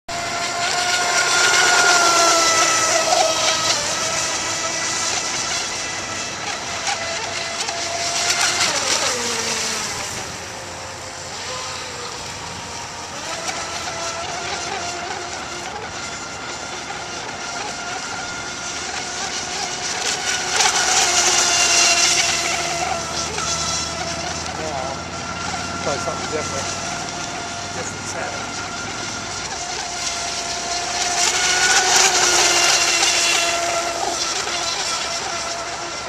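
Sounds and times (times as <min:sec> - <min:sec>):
model speedboat motor whine: 0:00.1 - 0:36.0.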